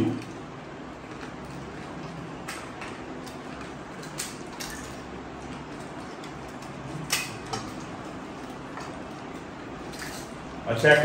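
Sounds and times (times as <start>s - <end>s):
steady room hiss: 0.0s - 11.0s.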